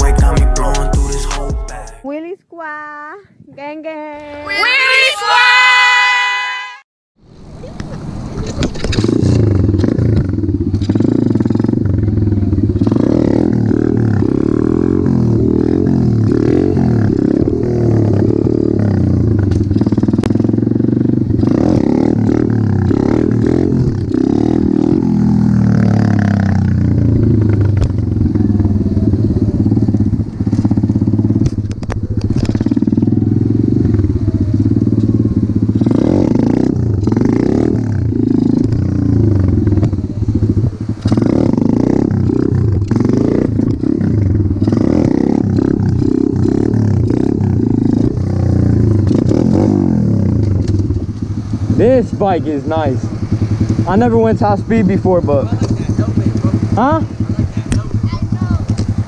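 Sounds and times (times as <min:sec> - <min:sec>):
pit bike engine revving: 0:08.1 - 0:59.0.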